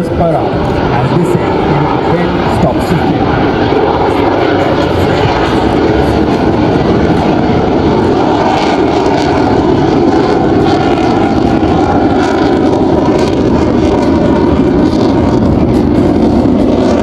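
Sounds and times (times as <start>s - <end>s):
fighter jet roaring past: 0.0s - 17.0s.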